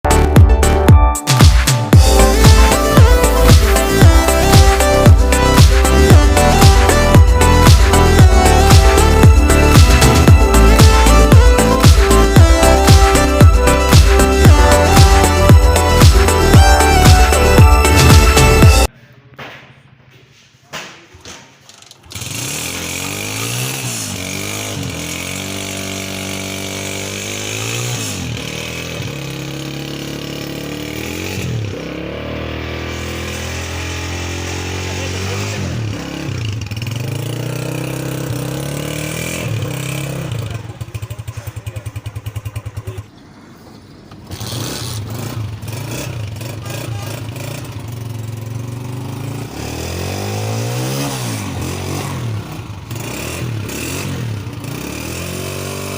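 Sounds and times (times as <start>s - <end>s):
motorcycle engine revving: 0.0s - 18.9s, 22.0s - 55.9s.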